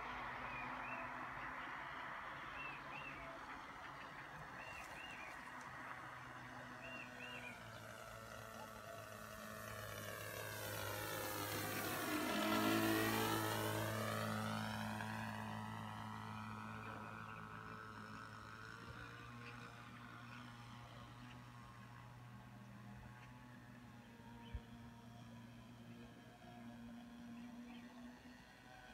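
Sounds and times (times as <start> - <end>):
model aircraft engine buzzing: 0.0 - 28.9.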